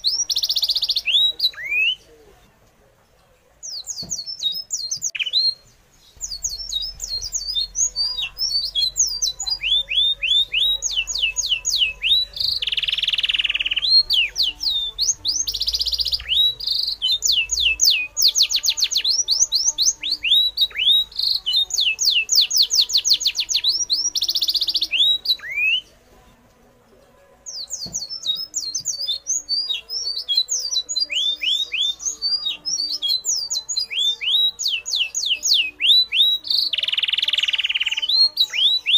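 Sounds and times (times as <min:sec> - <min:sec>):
birds chirping: 0:00.0 - 0:26.6, 0:27.4 - 0:38.9.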